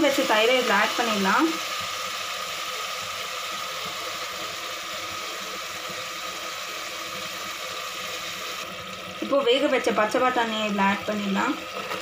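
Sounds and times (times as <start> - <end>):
food sizzling: 0.0 - 12.0.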